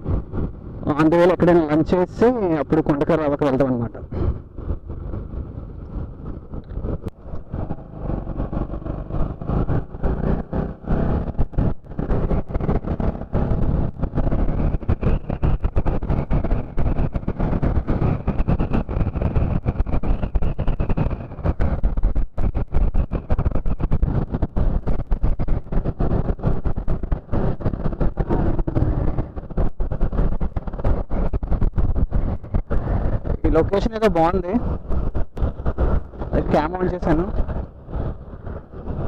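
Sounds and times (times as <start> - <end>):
wind rumbling on microphone: 0.0 - 39.0
motorcycle engine: 4.0 - 39.0.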